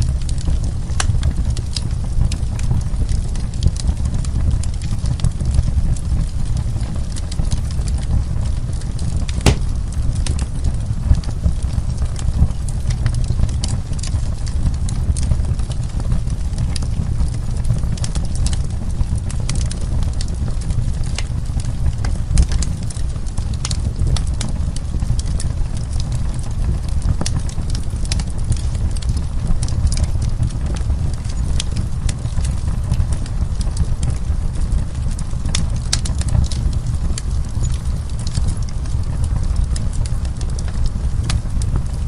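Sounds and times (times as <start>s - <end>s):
low fire rumble: 0.0s - 42.0s
wood fire crackling and popping: 0.0s - 42.0s.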